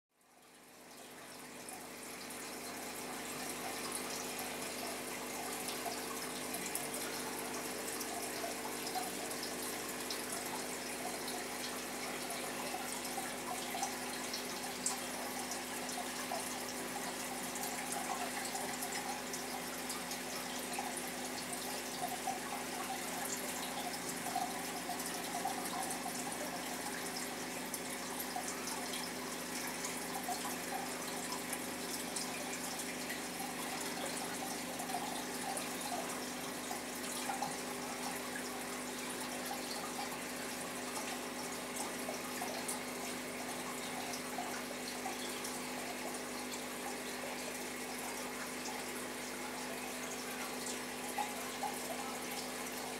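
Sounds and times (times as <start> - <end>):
aquarium water trickling and bubbling: 0.1 - 52.9
faint pump hum: 0.2 - 52.9.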